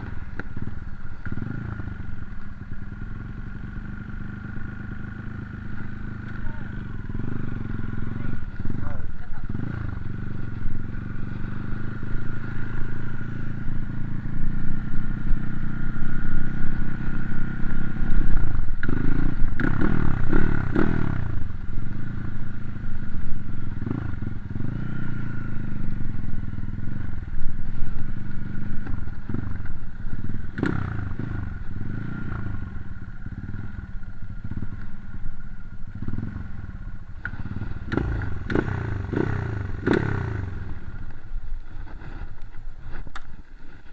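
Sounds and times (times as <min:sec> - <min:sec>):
dirt bike engine revving: 0:00.0 - 0:41.1.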